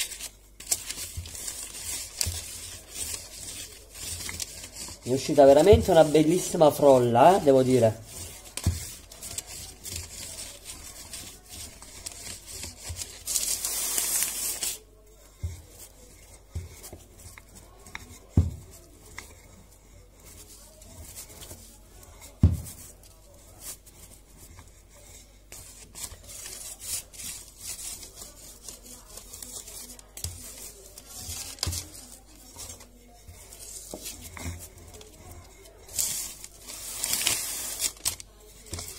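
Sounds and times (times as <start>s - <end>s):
parchment paper rustling: 0.0s - 38.9s
rolling pin rolling dough: 0.0s - 38.9s.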